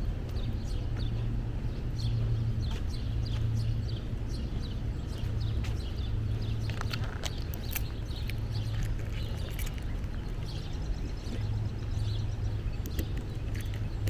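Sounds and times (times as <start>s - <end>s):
footsteps on forest trail: 0.2s - 12.5s.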